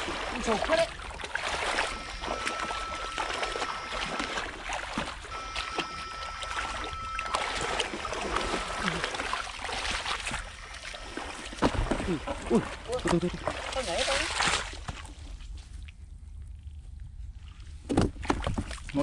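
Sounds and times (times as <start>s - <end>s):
person wading through water: 0.0s - 19.0s
faint high whine: 0.1s - 17.6s.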